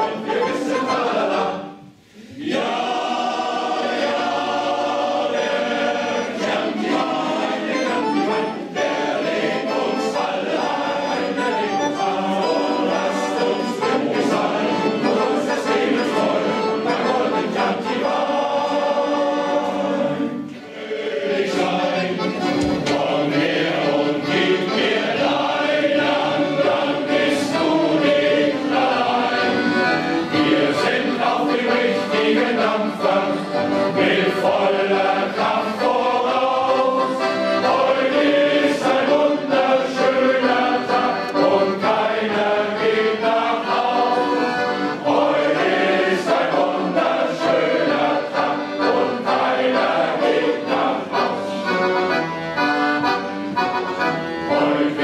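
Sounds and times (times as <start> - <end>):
accordion: 0.0 - 55.0
men's choir singing in harmony: 0.0 - 55.0.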